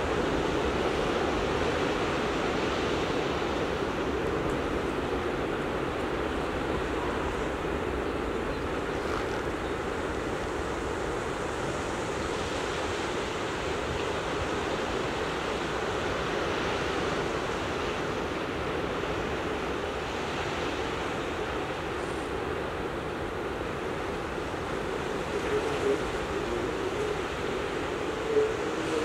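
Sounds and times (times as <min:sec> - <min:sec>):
ocean surf washing: 0:00.0 - 0:29.0.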